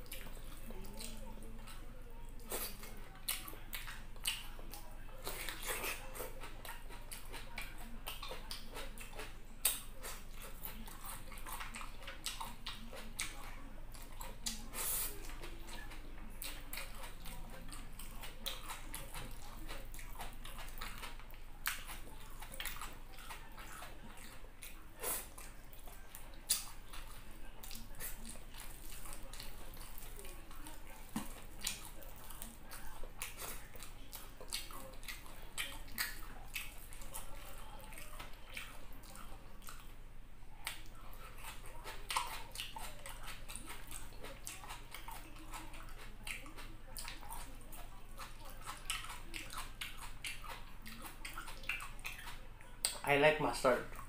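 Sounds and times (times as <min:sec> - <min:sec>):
chewing with crunchy clicks: 0:00.0 - 0:54.0.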